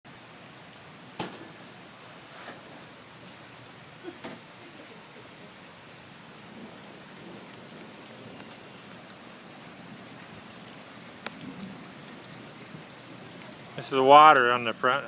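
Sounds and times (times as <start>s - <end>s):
floodwater rushing off road: 0.1s - 15.0s.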